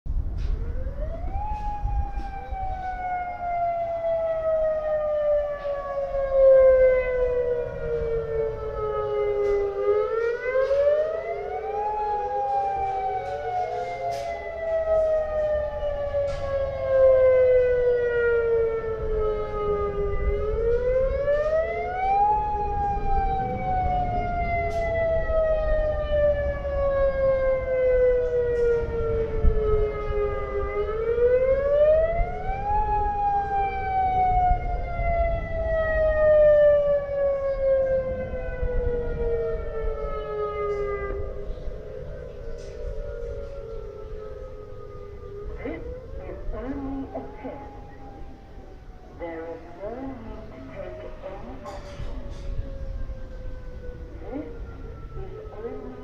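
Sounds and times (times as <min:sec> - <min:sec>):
electronic siren rising and falling: 0:00.5 - 0:56.0.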